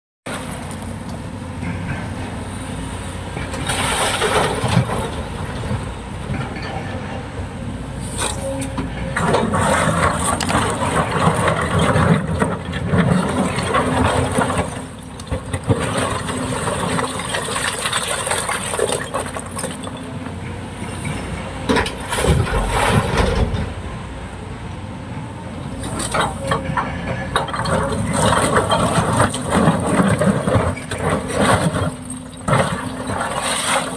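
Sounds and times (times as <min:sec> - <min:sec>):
excavator diesel engine running: 0:00.3 - 0:33.9.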